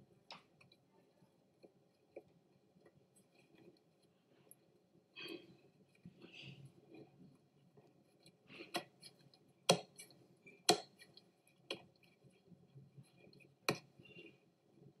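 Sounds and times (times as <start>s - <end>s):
dough handling noise: 0.0s - 15.0s.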